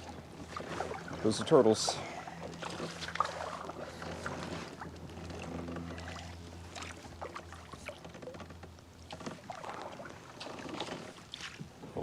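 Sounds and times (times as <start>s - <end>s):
kayak splashing through water: 0.0s - 8.4s, 9.0s - 11.8s
low steady hum: 0.0s - 12.0s.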